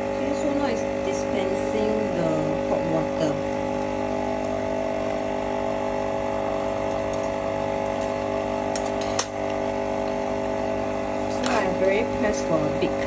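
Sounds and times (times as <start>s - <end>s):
coffee machine pump running: 0.0s - 13.0s.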